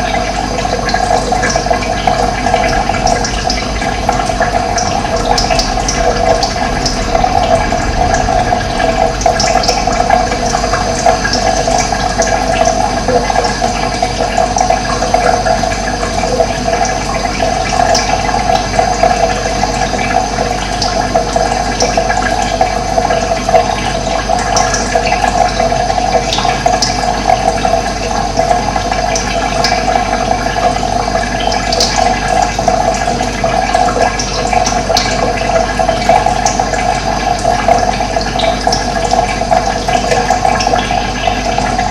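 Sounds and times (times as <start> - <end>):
water rushing: 0.0 - 25.2, 33.4 - 41.9.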